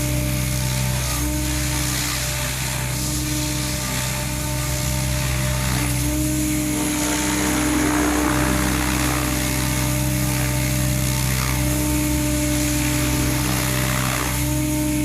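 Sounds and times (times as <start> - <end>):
helicopter rotor drone: 0.0 - 15.0.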